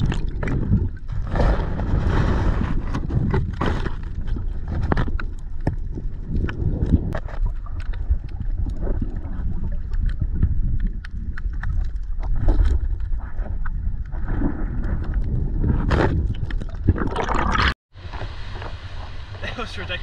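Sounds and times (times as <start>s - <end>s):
sharp underwater clicks and crackles: 0.0s - 19.4s
underwater rumble of moving water: 0.0s - 20.0s.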